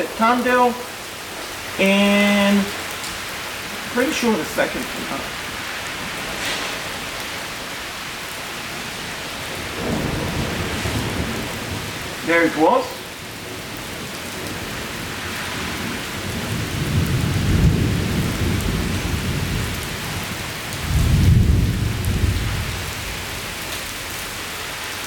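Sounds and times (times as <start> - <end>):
heavy rain falling: 0.0 - 25.0
thunder rumbling: 2.4 - 24.5.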